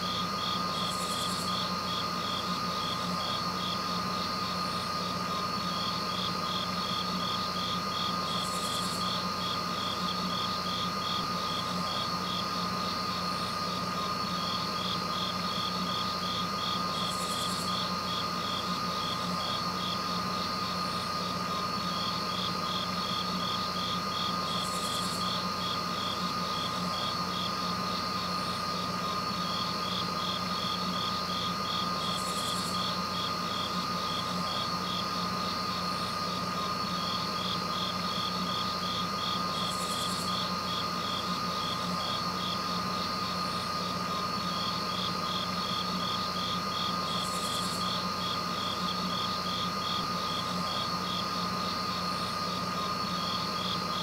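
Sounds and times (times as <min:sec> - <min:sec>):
constant low hum: 0:00.0 - 0:54.0
insects trilling: 0:00.0 - 0:54.0.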